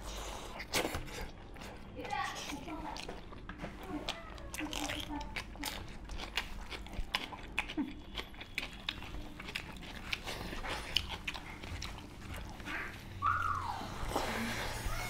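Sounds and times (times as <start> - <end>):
chewing and lip smacking: 0.0 - 15.0.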